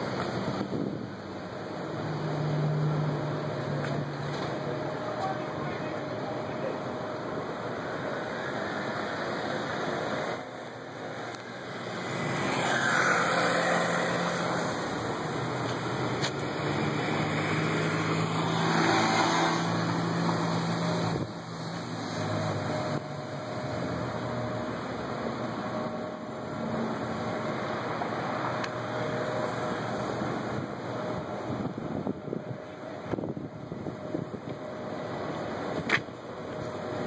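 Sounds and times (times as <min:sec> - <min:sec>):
cars passing: 0:00.0 - 0:37.0.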